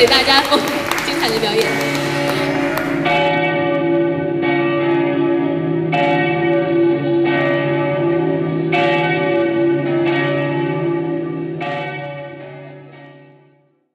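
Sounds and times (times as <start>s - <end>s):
church bells ringing: 0.0s - 13.9s.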